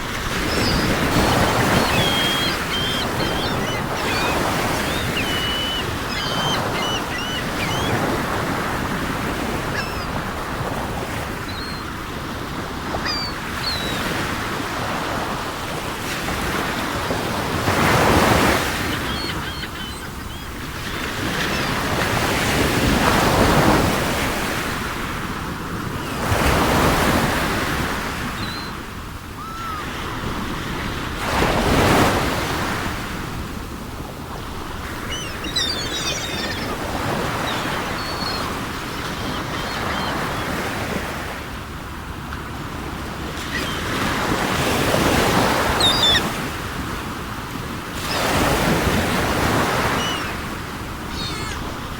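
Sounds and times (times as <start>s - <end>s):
seagulls calling: 0.0s - 15.3s, 16.0s - 24.7s, 25.9s - 33.1s, 34.3s - 41.7s, 42.3s - 51.9s
sea surf breaking: 0.0s - 51.9s.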